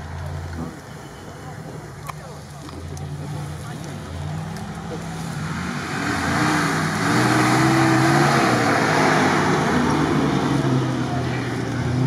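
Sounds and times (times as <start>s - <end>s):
car engine approaching: 1.6s - 12.0s.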